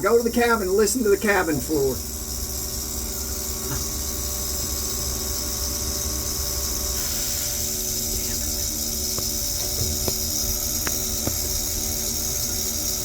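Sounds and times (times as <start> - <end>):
valve shuddering with low hum: 0.1 - 13.0.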